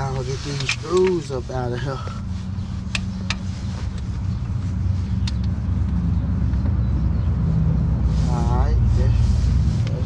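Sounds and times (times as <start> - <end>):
engine rumbling: 0.0 - 10.0.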